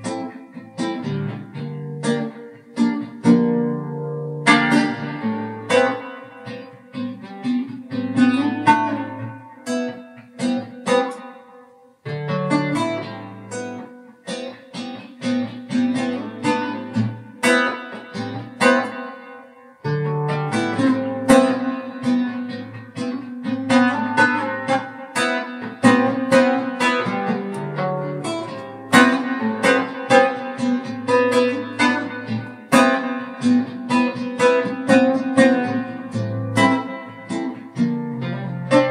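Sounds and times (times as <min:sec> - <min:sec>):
solo guitar playing: 0:00.0 - 0:38.9.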